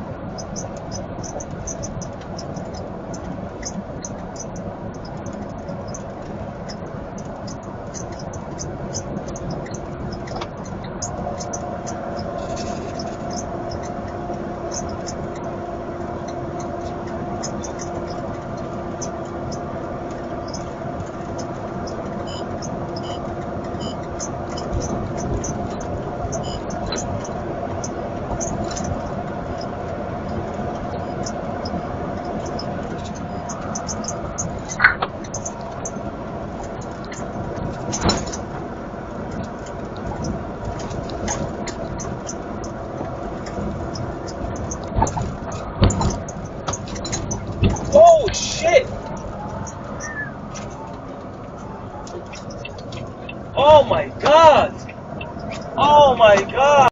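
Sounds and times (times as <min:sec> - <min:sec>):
vehicle engine and road noise: 0:00.0 - 0:56.9.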